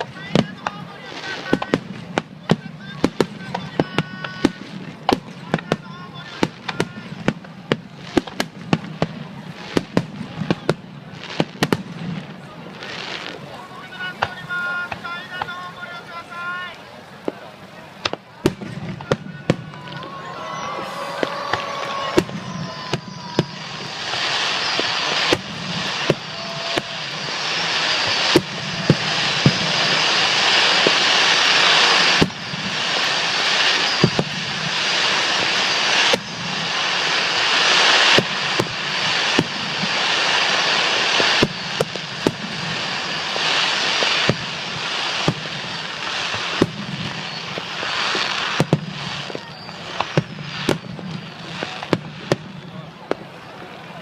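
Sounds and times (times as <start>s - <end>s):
fireworks crackling hiss: 0.0s - 54.0s.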